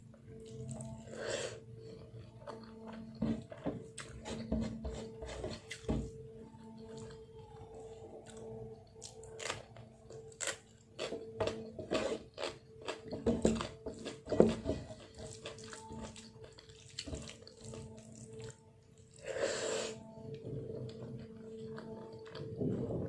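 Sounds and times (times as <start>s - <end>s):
wet chewing and smacking: 1.8s - 23.0s.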